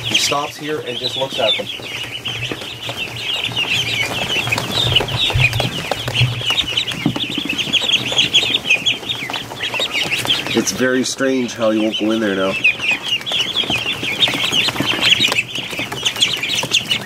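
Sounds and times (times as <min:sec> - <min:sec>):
ducklings peeping: 0:00.0 - 0:17.0.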